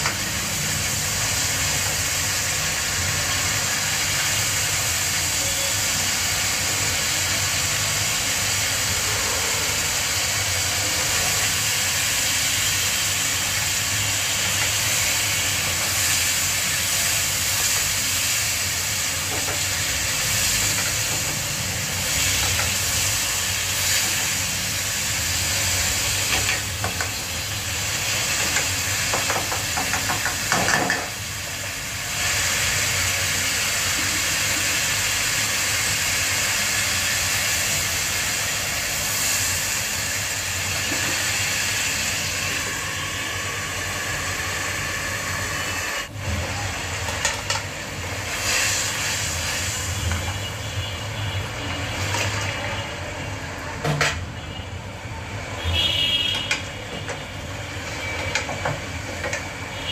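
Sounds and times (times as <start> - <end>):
spice paste sizzling in oil: 0.0 - 53.6, 54.5 - 59.9.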